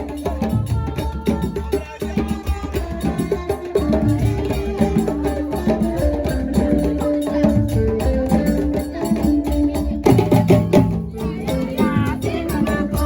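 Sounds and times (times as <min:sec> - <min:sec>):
fast hand-drum percussion: 0:00.0 - 0:13.0.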